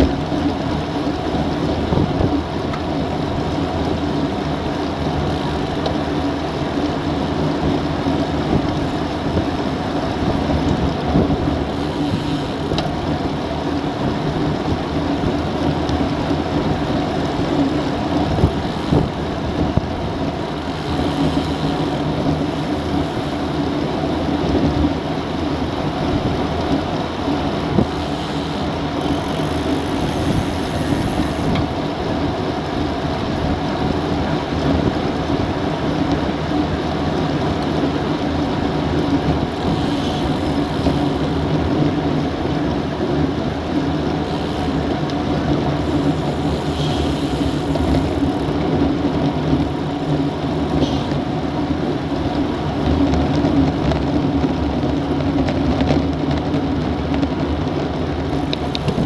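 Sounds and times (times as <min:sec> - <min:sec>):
bike road noise: 0:00.0 - 0:59.0
wind rush: 0:00.0 - 0:59.0.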